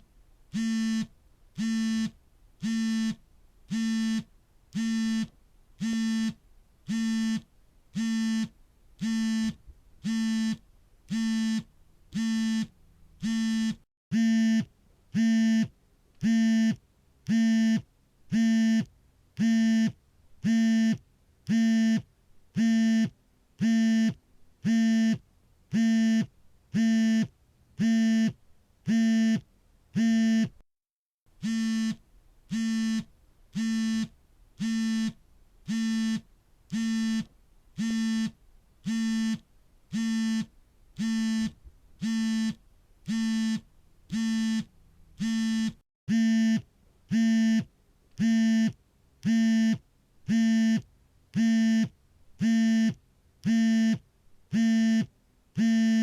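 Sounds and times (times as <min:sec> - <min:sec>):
smartphone vibrating buzz: 0:00.5 - 0:29.4, 0:30.0 - 0:30.6, 0:31.4 - 0:56.0.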